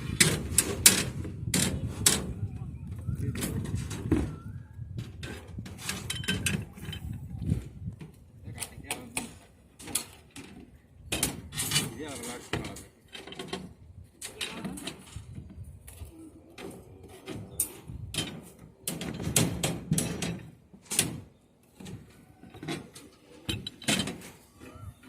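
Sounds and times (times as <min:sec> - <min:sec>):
construction materials knocking and clanking: 0:00.0 - 0:25.0.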